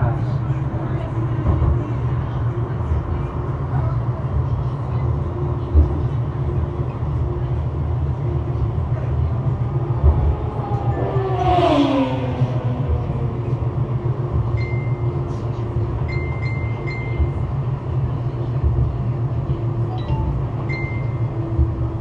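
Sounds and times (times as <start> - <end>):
tram rumble: 0.0 - 22.0.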